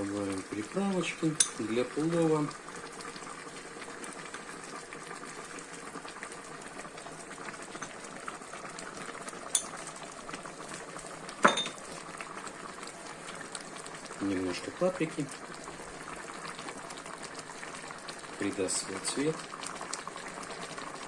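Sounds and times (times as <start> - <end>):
broth boiling in a pot: 0.0 - 21.0.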